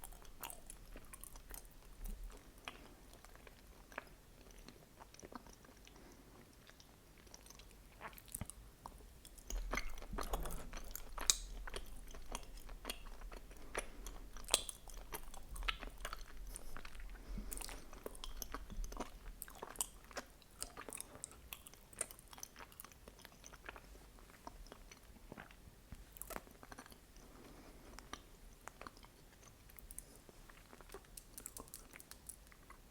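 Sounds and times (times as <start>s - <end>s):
sticky wet chewing: 0.0s - 25.6s, 26.2s - 32.9s.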